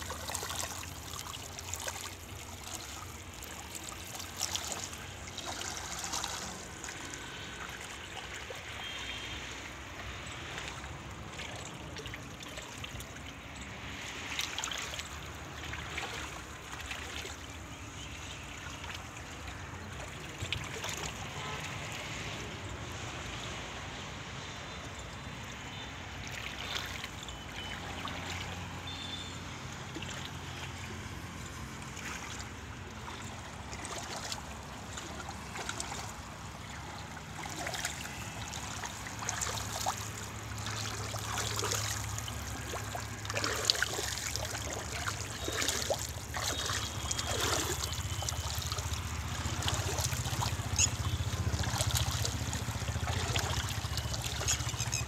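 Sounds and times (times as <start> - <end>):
muddy water sloshing and splashing: 0.0 - 55.0.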